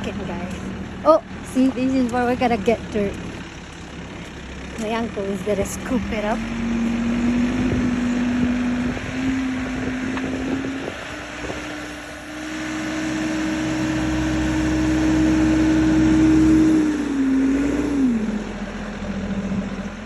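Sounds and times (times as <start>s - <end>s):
backhoe engine running: 0.0s - 20.0s.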